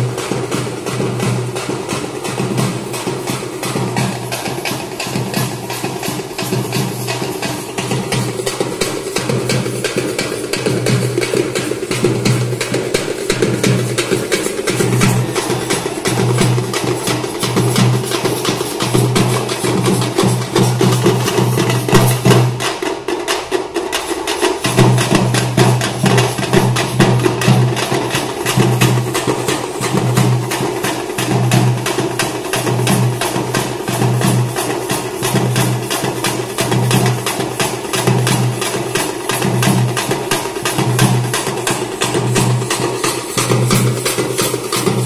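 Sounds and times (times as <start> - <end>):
deep barrel drum beat: 0.0 - 45.0
frame drums rattling: 0.0 - 45.0.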